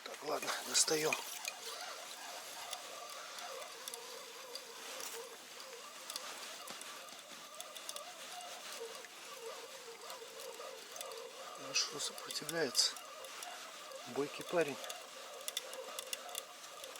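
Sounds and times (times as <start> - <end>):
snow grains ticking: 0.0 - 16.9.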